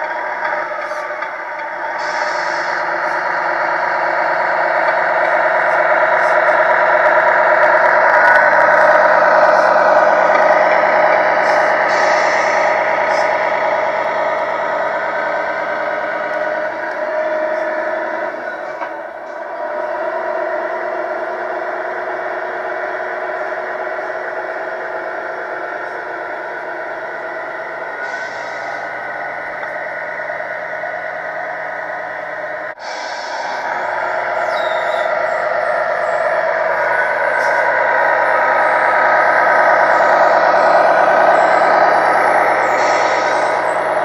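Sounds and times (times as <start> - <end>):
radio-controlled truck running: 0.0 - 44.0.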